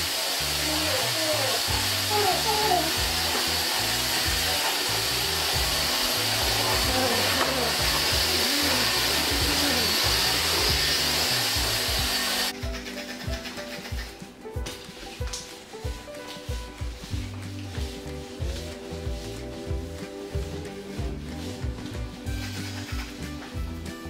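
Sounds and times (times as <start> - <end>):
vacuum cleaner whirring: 0.0 - 23.8.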